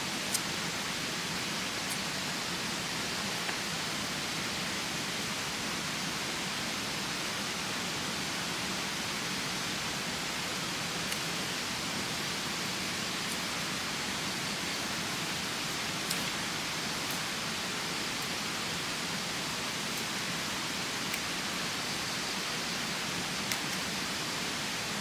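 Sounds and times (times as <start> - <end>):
hiss of heavy rain: 0.0 - 25.0.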